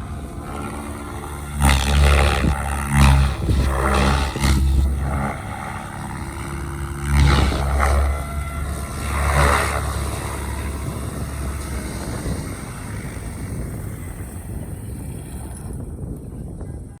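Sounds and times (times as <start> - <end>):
rc helicopter rotor whirring: 0.0 - 16.6.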